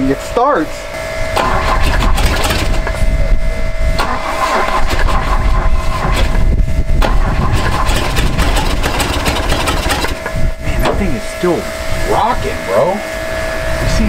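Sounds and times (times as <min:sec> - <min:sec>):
car engine running unevenly: 0:00.0 - 0:13.4.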